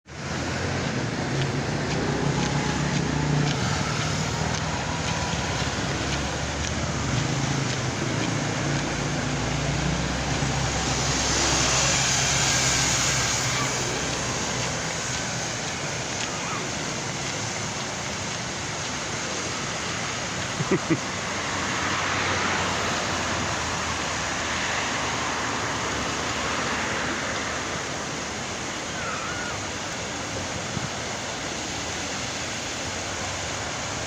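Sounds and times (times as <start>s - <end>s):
road traffic engine hum: 0.0s - 34.0s
vehicle passing hiss: 0.1s - 34.0s.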